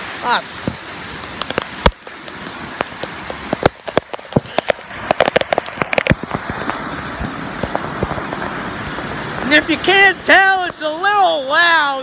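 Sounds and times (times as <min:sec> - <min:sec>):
raindrops tapping close by: 0:00.0 - 0:10.9
rain falling: 0:00.0 - 0:12.0.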